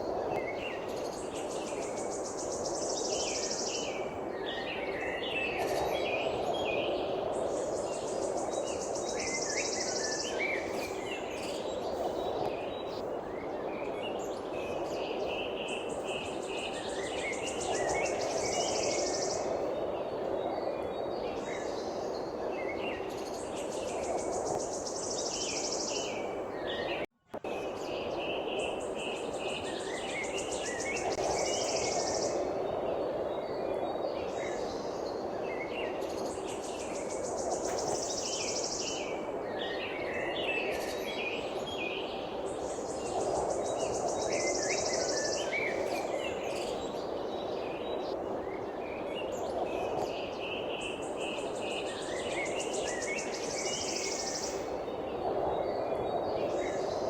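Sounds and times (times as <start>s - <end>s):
songbirds chirping and calling: 0.0s - 57.0s.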